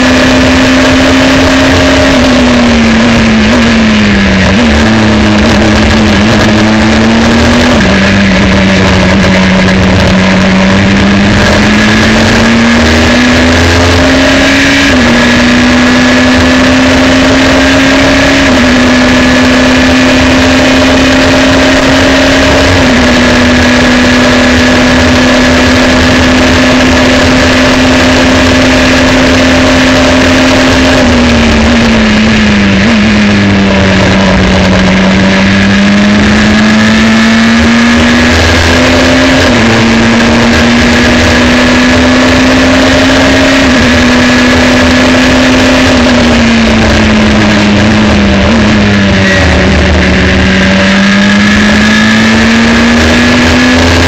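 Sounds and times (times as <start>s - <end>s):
racing car engine: 0.0s - 54.0s
wind and road noise: 0.0s - 54.0s.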